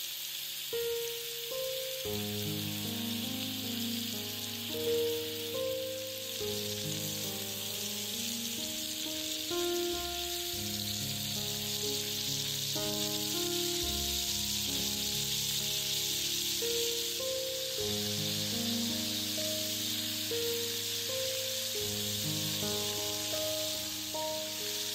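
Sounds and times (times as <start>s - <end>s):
meat sizzling in oil: 0.0s - 24.9s
background music: 0.8s - 24.9s.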